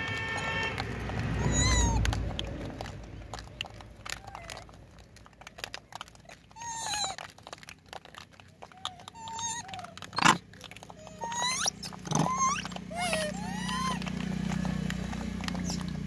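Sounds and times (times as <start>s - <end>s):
small clicks: 0.0s - 16.0s
monkeys cooing: 1.3s - 4.8s, 5.6s - 7.6s, 8.6s - 16.0s.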